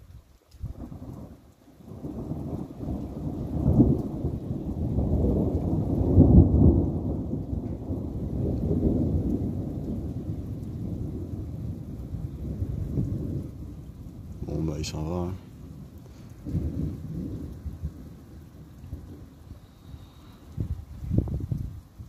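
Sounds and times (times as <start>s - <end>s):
thunder rumbling: 0.6s - 22.0s.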